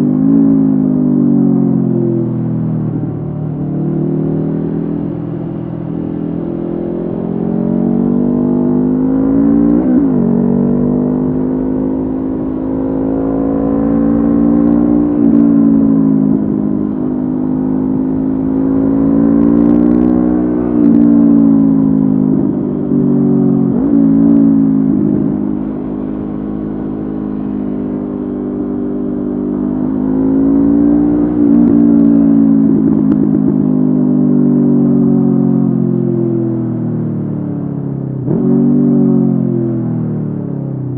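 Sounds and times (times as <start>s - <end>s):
wind and road rumble: 0.0s - 40.9s
motorcycle engine revving: 3.0s - 40.5s.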